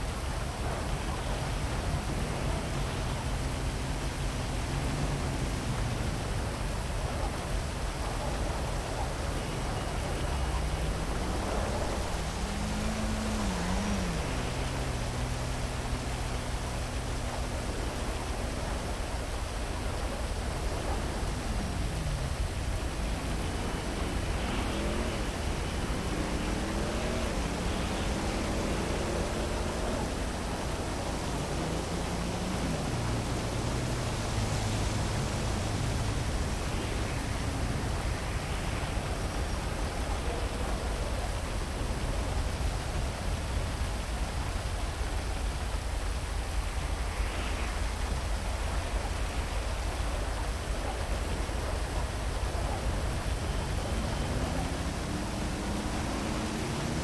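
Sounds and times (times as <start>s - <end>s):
cars passing: 0.0s - 57.0s
heavy rain falling: 0.0s - 57.0s.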